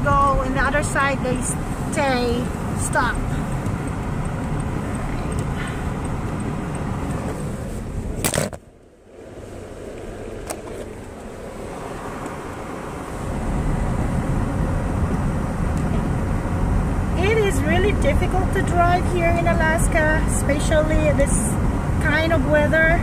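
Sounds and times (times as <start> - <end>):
car engine and tyre noise: 0.0 - 23.0.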